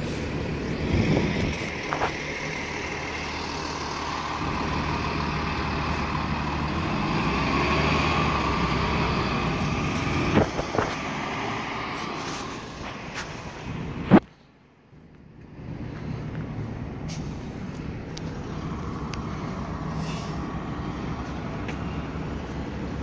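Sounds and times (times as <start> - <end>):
bus diesel engine drone with whine: 0.0 - 23.0.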